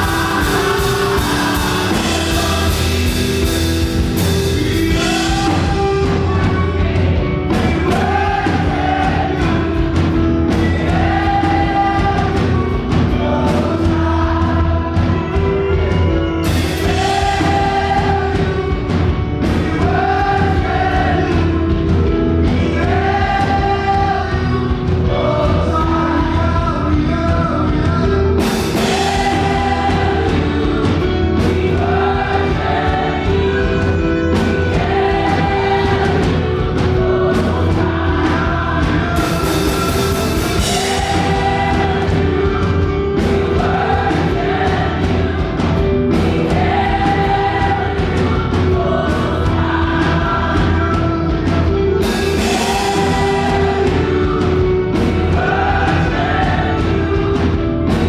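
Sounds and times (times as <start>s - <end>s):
band with steady beat: 0.0s - 58.0s
choir singing: 0.0s - 58.0s.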